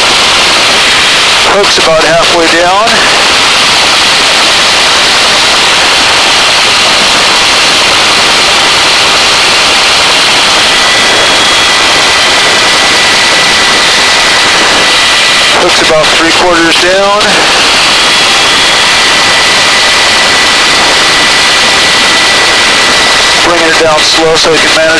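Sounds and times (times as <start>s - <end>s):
wind at open door: 0.0s - 15.7s, 16.5s - 24.4s
faint high whine: 0.0s - 24.9s
helicopter rotor and engine noise: 0.0s - 24.9s.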